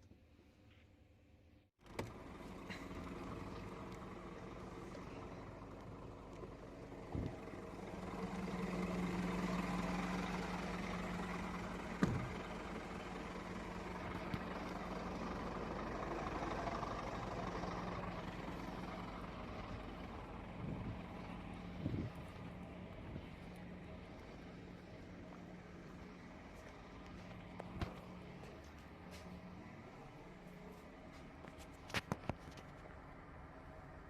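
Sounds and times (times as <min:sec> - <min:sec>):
diesel truck engine running: 0:01.8 - 0:34.0.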